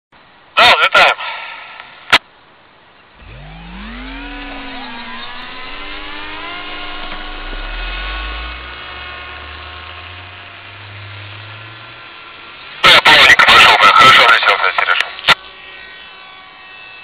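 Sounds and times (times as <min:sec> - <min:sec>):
electric ducted fan whine: 0:03.1 - 0:17.0
low hum: 0:03.1 - 0:17.0.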